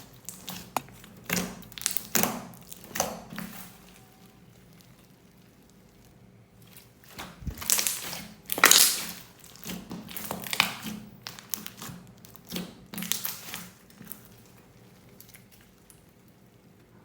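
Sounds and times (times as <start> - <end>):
plastic bags crinkling: 1.8 - 16.7.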